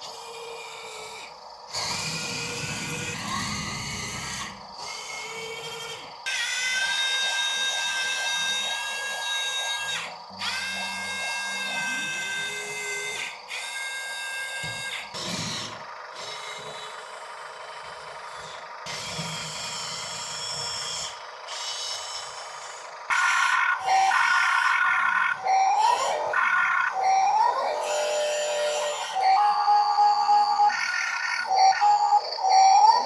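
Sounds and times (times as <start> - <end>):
toy electric motors whining: 0.0 - 33.0.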